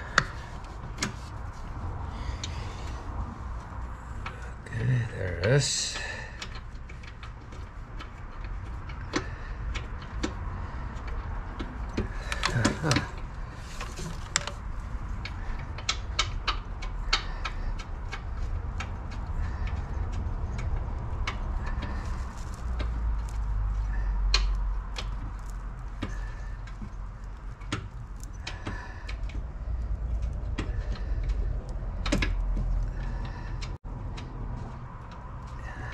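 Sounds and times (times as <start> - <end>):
steady low rumble: 0.0 - 35.9
light clicks and taps: 5.9 - 35.9.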